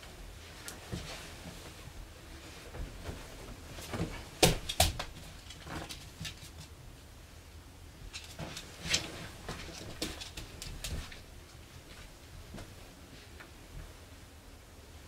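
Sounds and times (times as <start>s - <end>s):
quiet rustling: 0.0s - 14.3s.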